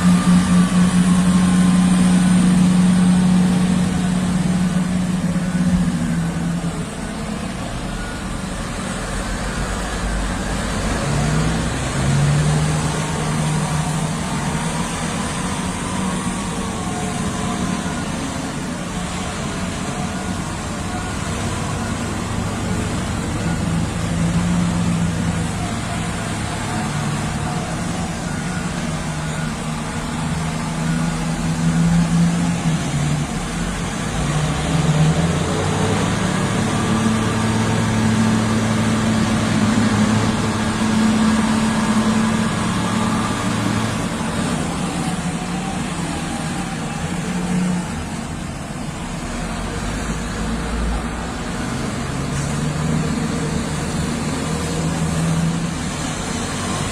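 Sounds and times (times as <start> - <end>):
heavy diesel truck engines: 0.0 - 56.9.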